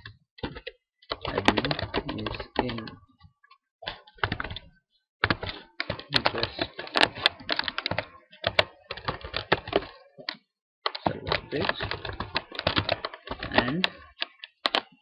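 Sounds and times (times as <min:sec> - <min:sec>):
computer keyboard typing: 0:00.0 - 0:03.0, 0:03.9 - 0:15.0.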